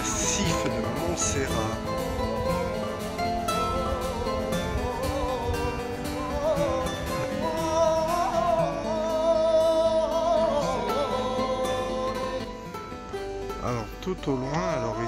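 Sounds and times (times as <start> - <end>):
person singing: 0.0 - 13.0, 13.6 - 15.0
instrumental accompaniment: 0.0 - 15.0.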